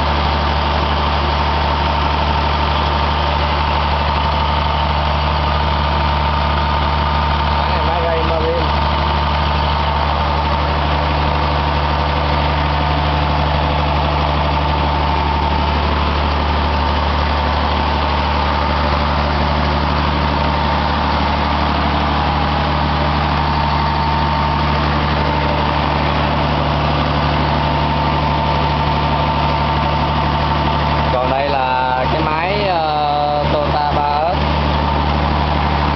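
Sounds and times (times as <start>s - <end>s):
engine idling hum: 0.0s - 35.9s
thin steady engine whine: 0.0s - 35.9s.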